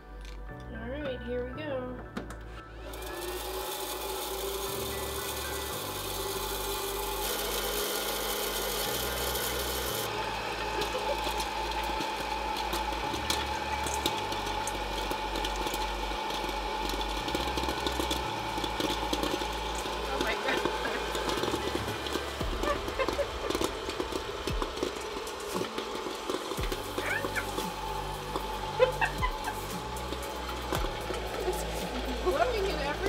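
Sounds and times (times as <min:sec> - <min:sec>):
popcorn popper motor whine: 0:02.6 - 0:33.0
popcorn kernels popping: 0:03.1 - 0:32.3.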